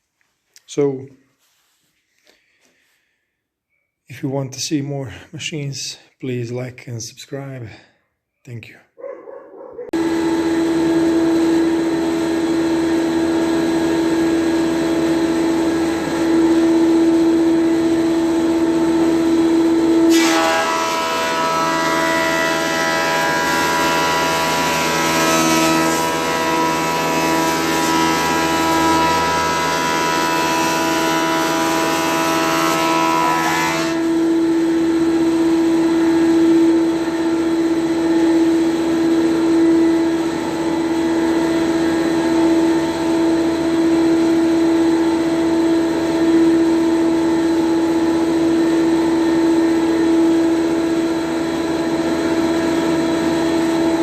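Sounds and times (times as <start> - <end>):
thickness planer humming: 9.6 - 54.0
harsh wood cutting noise: 9.9 - 54.0.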